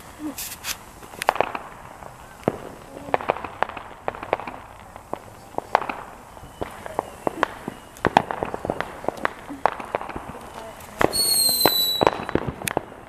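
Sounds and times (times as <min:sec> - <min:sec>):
firecrackers popping: 0:00.0 - 0:13.0.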